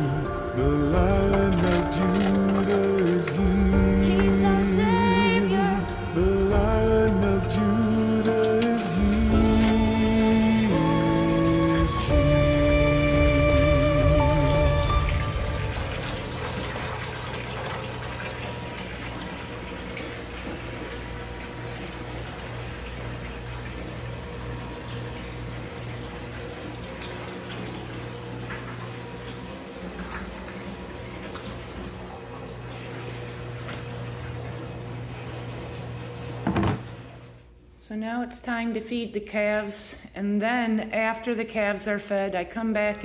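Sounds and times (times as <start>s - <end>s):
water running from a tap: 1.0s - 37.4s.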